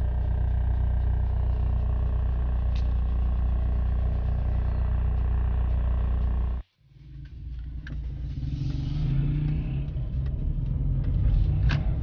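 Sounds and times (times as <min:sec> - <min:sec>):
car engine from inside cabin: 0:00.0 - 0:12.0
road rumble: 0:00.0 - 0:12.0.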